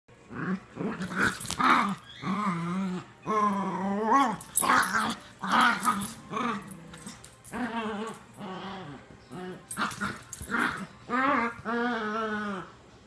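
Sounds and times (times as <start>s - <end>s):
drawn-out dog growling moans: 0.2s - 13.0s
small dogs play-growling: 0.3s - 12.8s.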